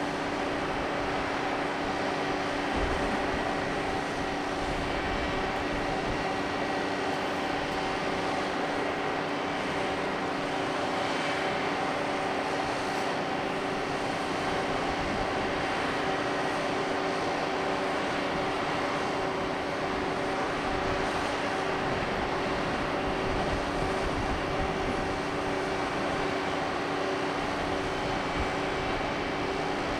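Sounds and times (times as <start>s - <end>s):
ship machinery drone: 0.0s - 29.9s.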